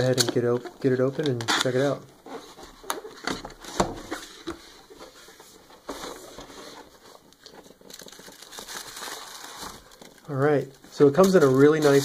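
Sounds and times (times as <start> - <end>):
packing wrap rustling: 0.0 - 12.0.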